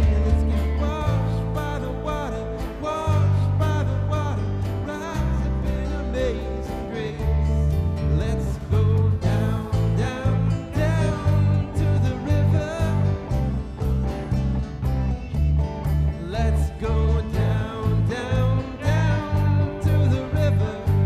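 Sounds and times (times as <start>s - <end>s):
pulsing bass beat: 0.0s - 21.0s
worship band playing: 0.0s - 21.0s.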